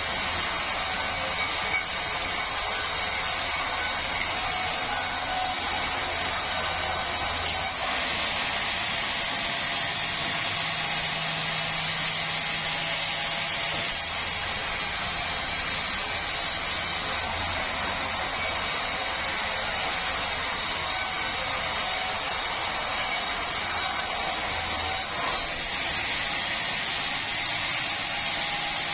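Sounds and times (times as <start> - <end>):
sawmill saw cutting log: 0.0 - 28.9.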